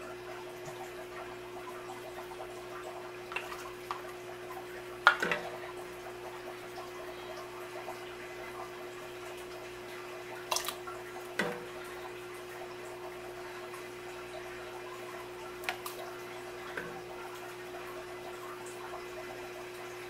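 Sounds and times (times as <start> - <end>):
faint liquid drips: 0.0 - 20.0.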